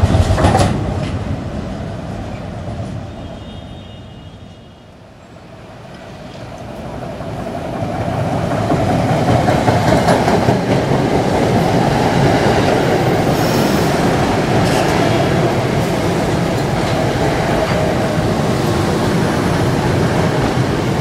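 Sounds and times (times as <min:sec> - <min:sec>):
rail clatter: 0:00.0 - 0:03.4, 0:05.9 - 0:21.0
train wheels rumbling on rails: 0:00.0 - 0:04.6, 0:05.4 - 0:21.0.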